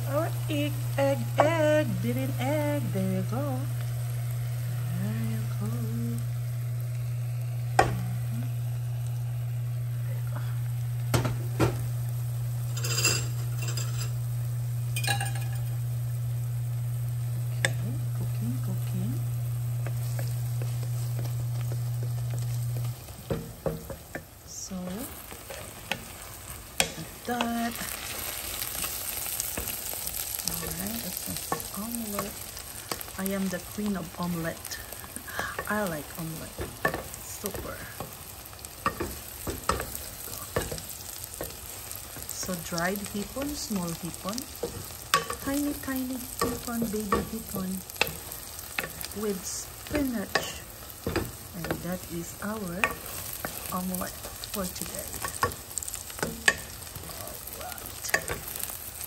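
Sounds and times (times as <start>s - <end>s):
eggs frying and sizzling: 0.0s - 59.0s
steady low hum: 0.0s - 59.0s.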